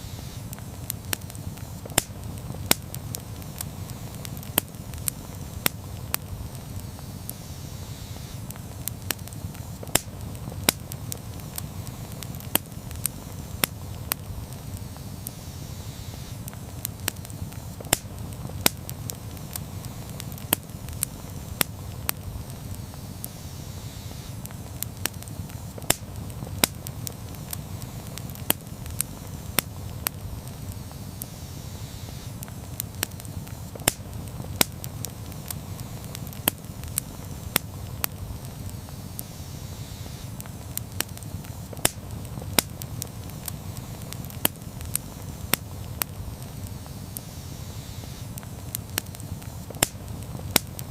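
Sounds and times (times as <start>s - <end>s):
burning wood crackling and popping: 0.0s - 50.9s
low rumble of flames: 0.0s - 50.9s.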